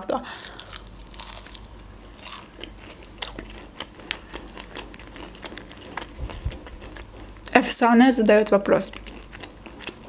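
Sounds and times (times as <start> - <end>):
chewing crunches: 0.4 - 7.6, 8.9 - 10.0.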